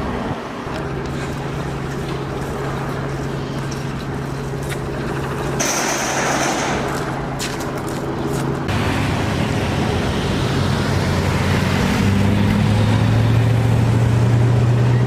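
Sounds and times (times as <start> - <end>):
vehicle engine running: 0.6 - 15.0.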